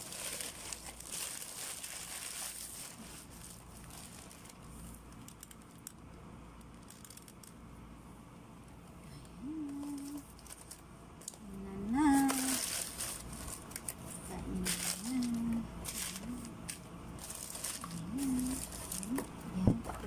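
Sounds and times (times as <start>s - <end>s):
plastic bag crinkling: 0.0s - 6.0s, 6.6s - 7.7s, 9.7s - 20.0s.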